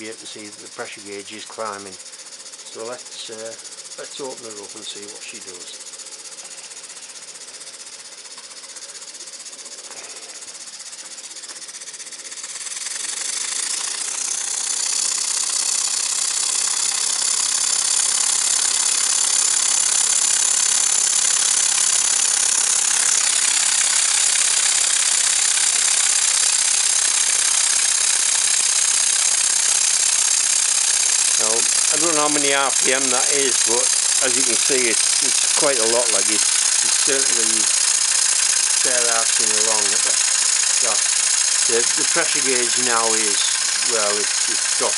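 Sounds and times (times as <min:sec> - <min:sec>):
model steam engine exhaust beats: 0:00.0 - 0:44.9.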